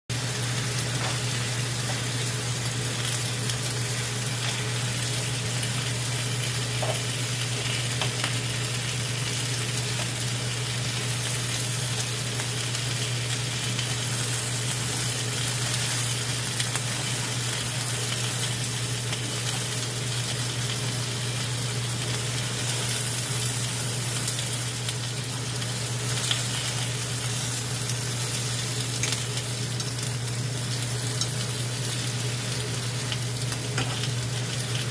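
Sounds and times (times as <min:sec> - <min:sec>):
meat sizzling in a frying pan: 0:00.1 - 0:34.9.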